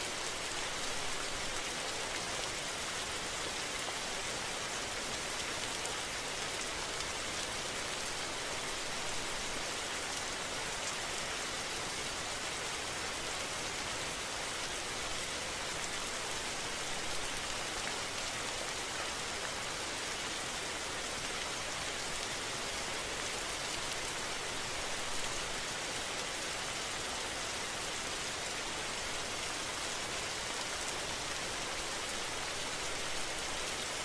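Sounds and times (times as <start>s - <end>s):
steady rain pattering: 0.0s - 34.0s.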